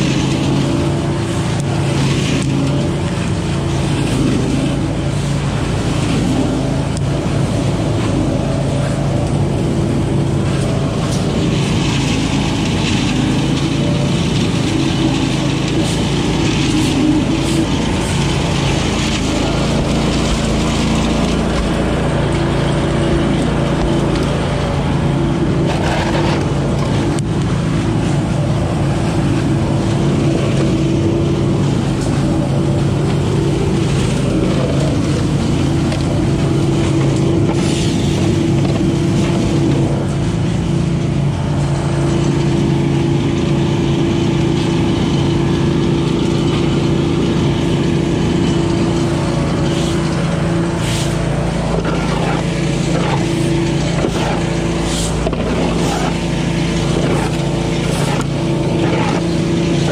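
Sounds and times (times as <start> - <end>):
leaf vacuum running: 0.0 - 59.9.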